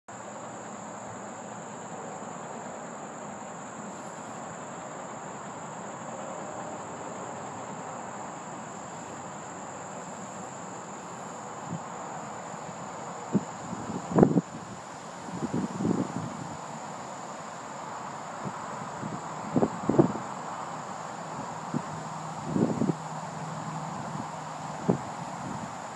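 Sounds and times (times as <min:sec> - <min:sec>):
high-pitched insect chorus: 0:00.1 - 0:25.9.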